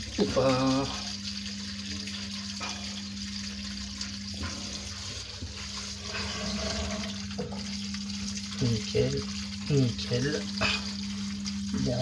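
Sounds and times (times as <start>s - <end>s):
washing machine spinning: 0.0s - 12.0s
water running through drain pipe: 0.0s - 12.0s.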